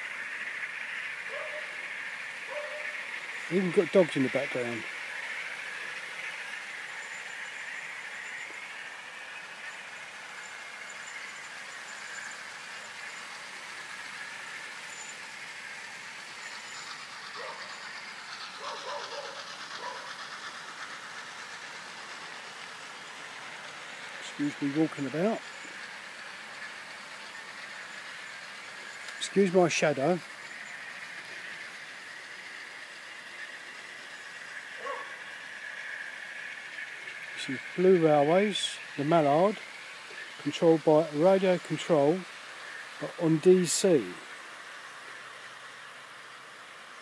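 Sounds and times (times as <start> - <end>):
model train motor whirring: 0.0 - 47.0.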